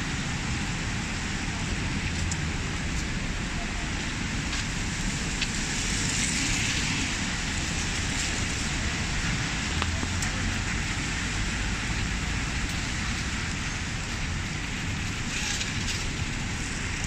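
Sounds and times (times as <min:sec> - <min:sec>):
low traffic rumble: 0:00.0 - 0:17.0
rain falling on street: 0:00.0 - 0:17.0.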